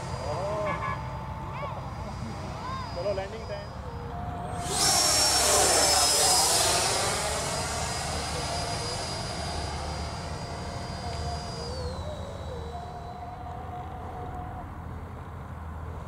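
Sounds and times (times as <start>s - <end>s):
electric fan whining: 0.0s - 16.0s.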